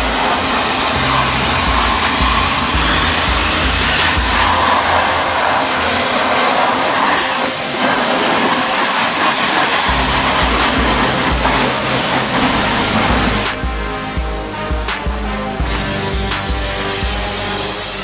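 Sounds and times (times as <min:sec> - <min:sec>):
background music: 0:00.0 - 0:18.0
truck wash spraying hiss: 0:00.0 - 0:18.0.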